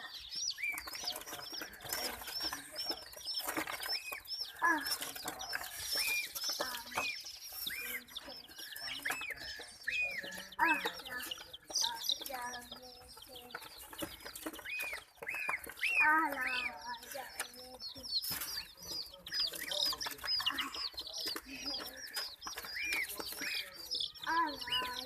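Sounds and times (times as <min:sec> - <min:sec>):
baby chicks peeping: 0:00.0 - 0:25.0.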